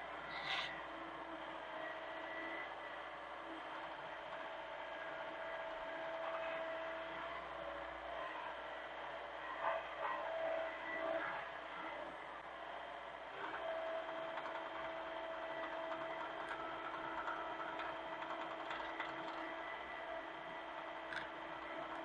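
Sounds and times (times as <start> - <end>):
excavator engine droning: 0.0 - 22.0.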